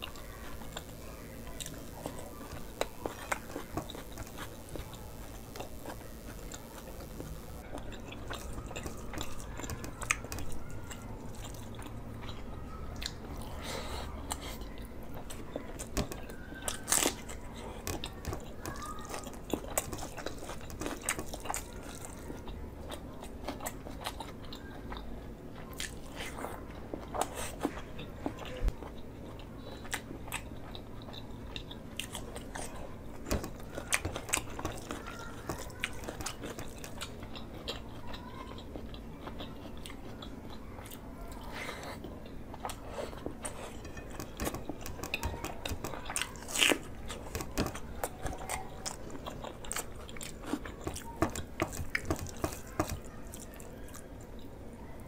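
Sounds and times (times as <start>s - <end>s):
chewing and mouth smacks: 0.0s - 54.8s.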